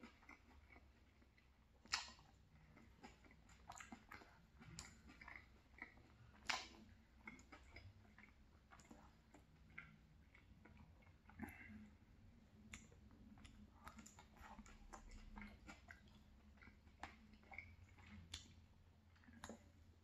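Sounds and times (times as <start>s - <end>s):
chewing with wet mouth clicks: 0.0s - 20.0s.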